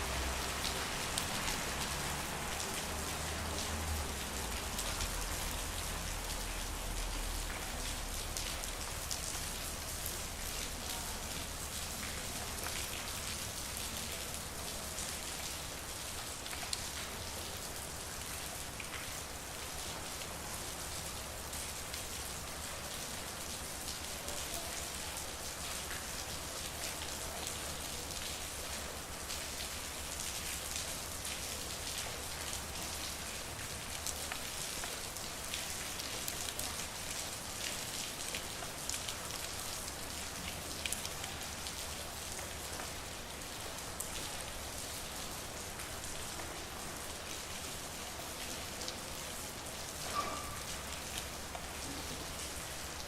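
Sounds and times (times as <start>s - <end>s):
rain falling on a street: 0.0s - 53.0s.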